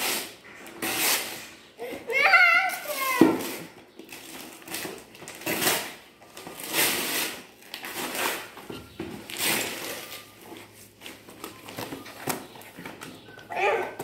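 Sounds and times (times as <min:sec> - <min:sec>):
wrapping paper tearing and rustling: 0:00.0 - 0:14.0.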